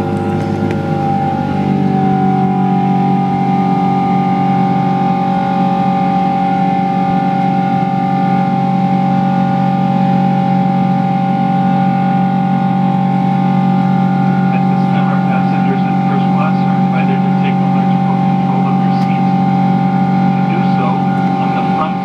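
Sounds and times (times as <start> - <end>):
jet engine drone in cabin: 0.0 - 22.0.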